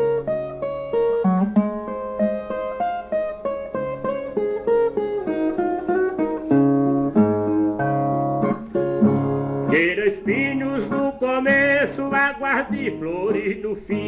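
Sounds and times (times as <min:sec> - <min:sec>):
steel-strung guitar picked melody: 0:00.0 - 0:14.0.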